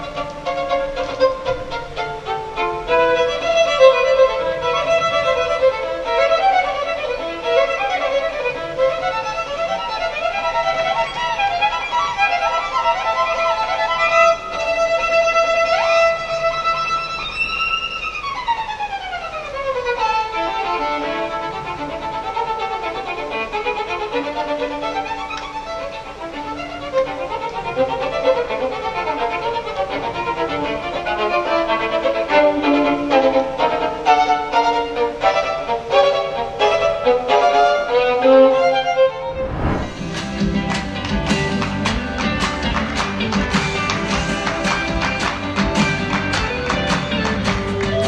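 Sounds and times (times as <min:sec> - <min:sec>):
violin melody: 0:00.0 - 0:42.4.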